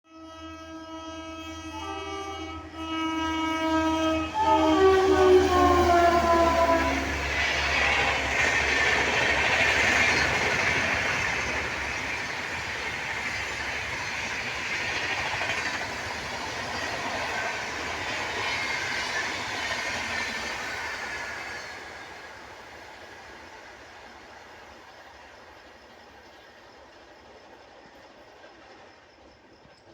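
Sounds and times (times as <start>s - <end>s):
train passing at speed: 0.1s - 29.9s.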